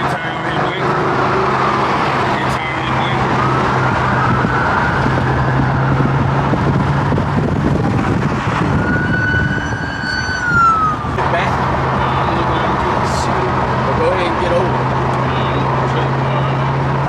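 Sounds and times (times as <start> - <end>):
car engine drone: 0.0 - 17.0
police siren wailing: 0.0 - 17.0.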